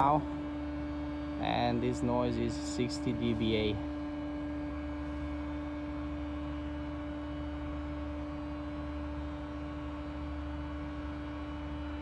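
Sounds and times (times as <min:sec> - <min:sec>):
drilling machinery drone: 0:00.0 - 0:12.0
steady humming tone: 0:00.0 - 0:12.0.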